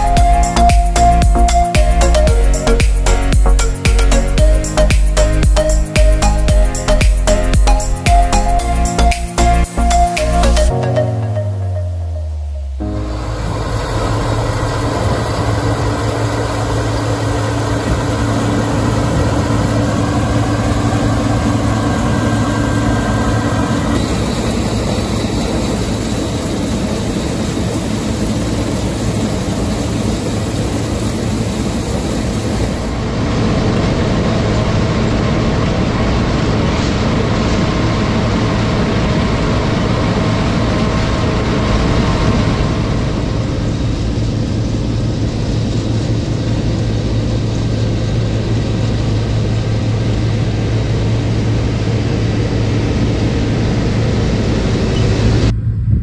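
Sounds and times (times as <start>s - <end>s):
combine harvester machinery drone: 0.0s - 56.0s.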